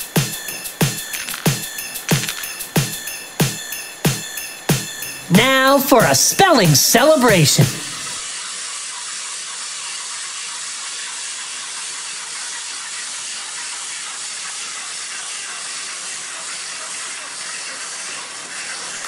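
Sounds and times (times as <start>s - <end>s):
steady high-pitched hiss: 0.0s - 19.0s.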